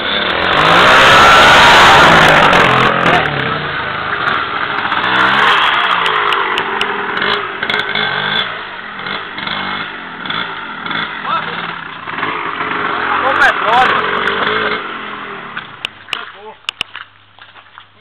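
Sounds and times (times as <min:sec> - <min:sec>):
dirt bike engines revving: 0:00.0 - 0:17.1.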